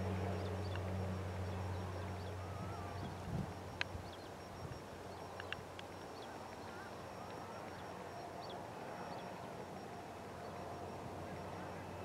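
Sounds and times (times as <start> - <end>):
turboprop plane drone: 0.0 - 12.0.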